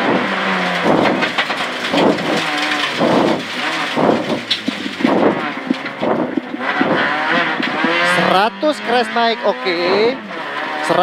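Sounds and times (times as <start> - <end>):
rally car engine from inside: 0.0 - 11.0
road and tyre noise: 0.0 - 11.0.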